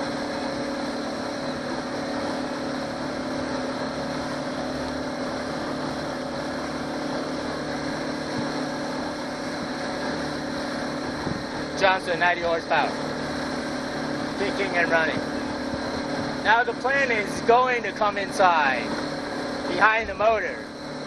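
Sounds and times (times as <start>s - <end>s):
outboard motor running: 0.0s - 21.0s
rush of boat wake: 0.0s - 21.0s.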